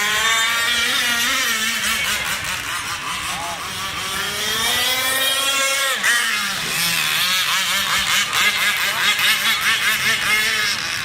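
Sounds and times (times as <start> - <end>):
boat motor whining: 0.0 - 11.0.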